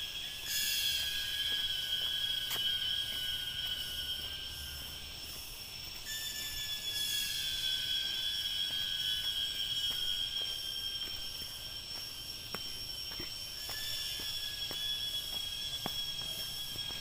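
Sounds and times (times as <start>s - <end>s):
insects droning high whine: 0.0s - 17.0s.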